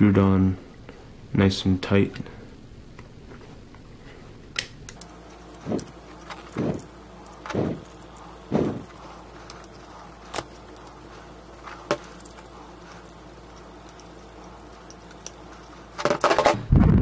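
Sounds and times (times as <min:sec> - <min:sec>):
steady low background hum: 0:00.0 - 0:17.0.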